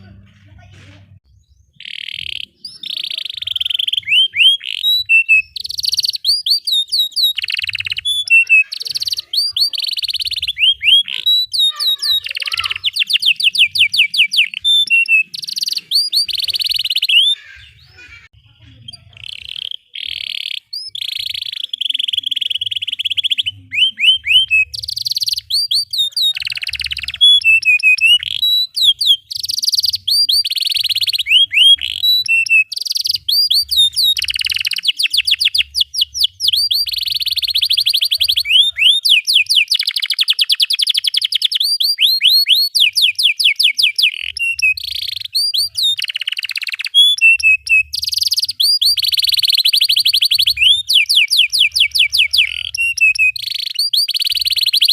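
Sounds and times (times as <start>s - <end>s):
canary singing trills: 1.0s - 54.9s.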